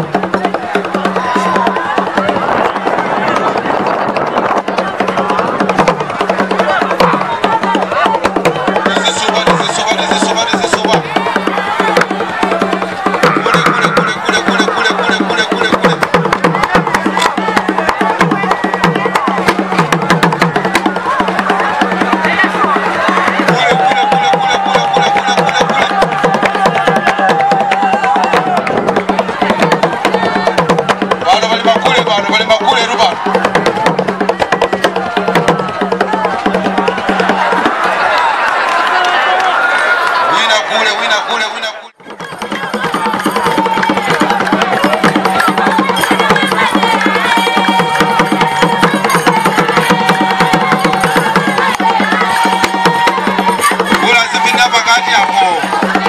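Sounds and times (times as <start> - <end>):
fast dance drumming: 0.0 - 41.2, 41.9 - 56.0.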